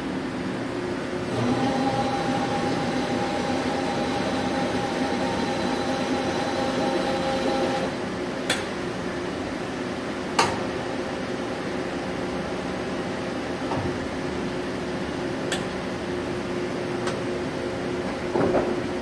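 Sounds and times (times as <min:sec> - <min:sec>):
machine mechanical hum: 0:00.0 - 0:19.0.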